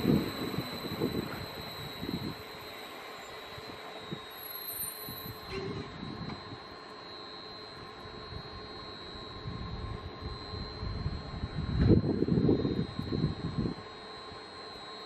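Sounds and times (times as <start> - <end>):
train running past: 0.0 - 12.1.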